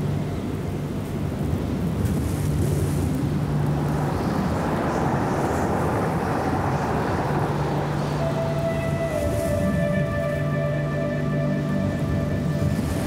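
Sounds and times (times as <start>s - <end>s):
low steady drone: 0.0s - 13.0s
strong wind rushing: 1.2s - 13.0s.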